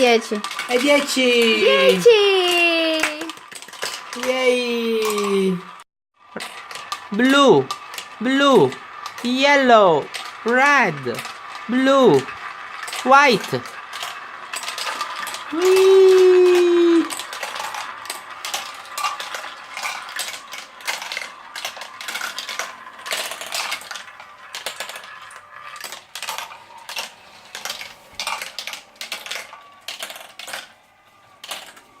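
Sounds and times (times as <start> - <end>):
marbles clattering down plastic run: 0.0 - 32.0.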